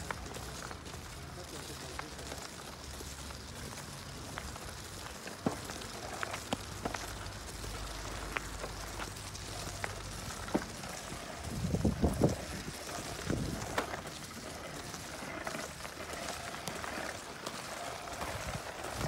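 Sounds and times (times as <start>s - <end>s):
battle ropes slapping on dirt: 0.0s - 19.0s.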